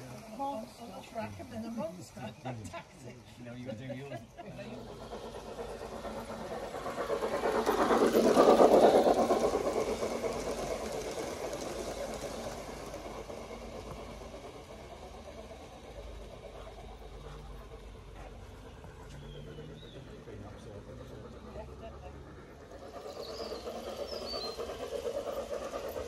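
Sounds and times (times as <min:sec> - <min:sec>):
model train running past: 0:00.0 - 0:26.0.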